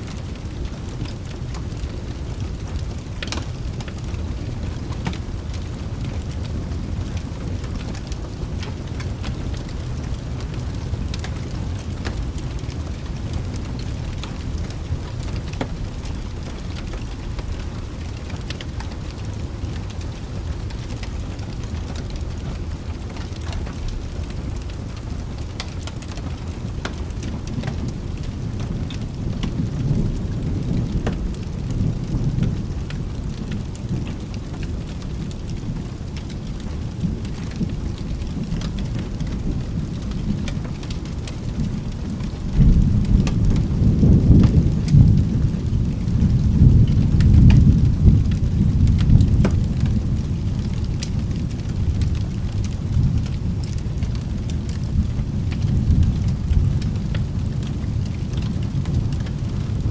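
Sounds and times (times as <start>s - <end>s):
heavy rain: 0.0s - 59.9s
low rumble of thunder: 0.0s - 59.9s
sharp ticks of raindrops: 0.0s - 59.9s.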